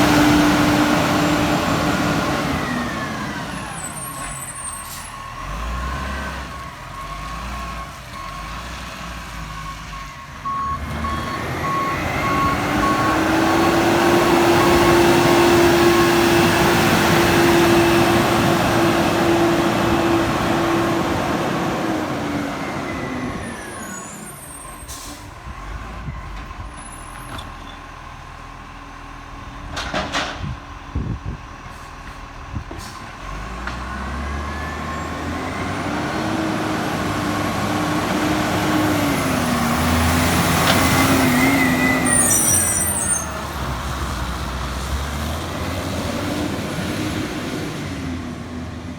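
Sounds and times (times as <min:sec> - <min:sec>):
truck reversing beeps: 0:00.0 - 0:28.3, 0:32.7 - 0:43.8
garbage truck engine: 0:00.0 - 0:48.9.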